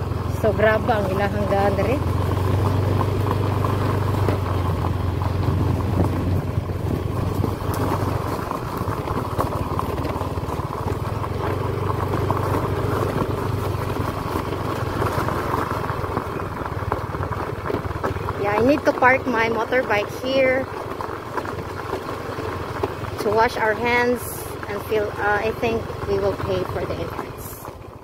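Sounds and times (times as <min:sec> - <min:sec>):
motorbike engine running: 0:00.0 - 0:28.0
tyres rolling over gravel: 0:00.0 - 0:28.0.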